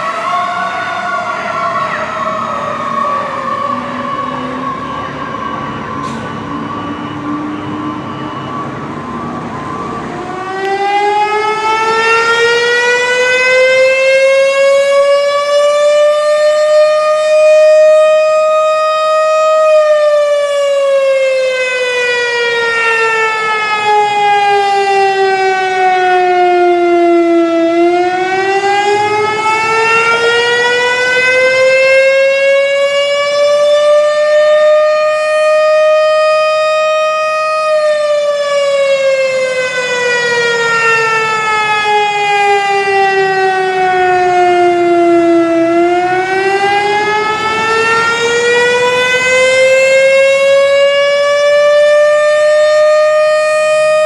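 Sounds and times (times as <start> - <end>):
siren wailing: 0.0 - 54.0.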